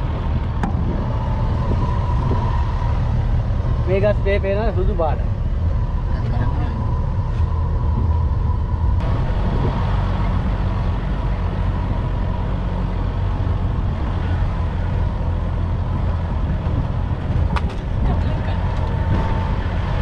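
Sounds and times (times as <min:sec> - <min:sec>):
jeep engine rumble: 0:00.0 - 0:20.0
vehicle road and body noise: 0:00.0 - 0:20.0.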